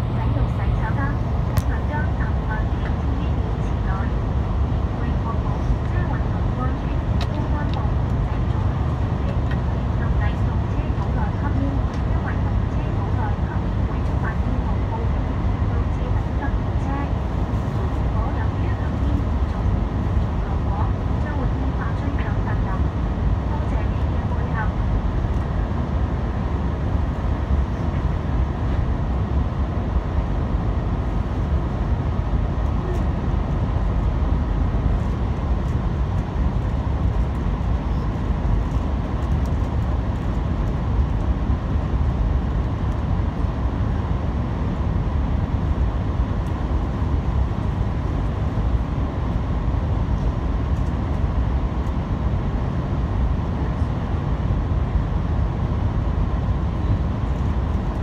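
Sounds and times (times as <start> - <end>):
faint steady whine: 0.0 - 58.0
wheels rumbling on rail: 0.0 - 58.0.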